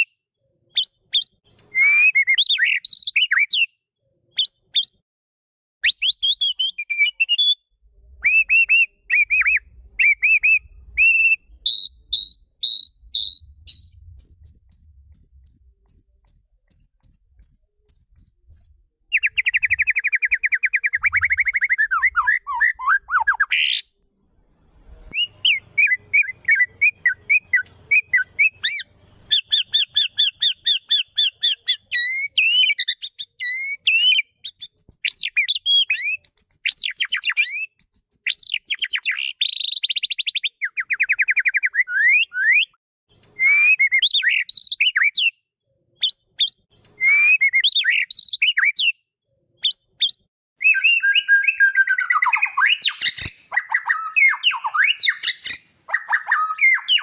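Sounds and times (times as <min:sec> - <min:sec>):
songbird singing whistled notes: 0:00.0 - 0:05.0, 0:05.8 - 0:57.0.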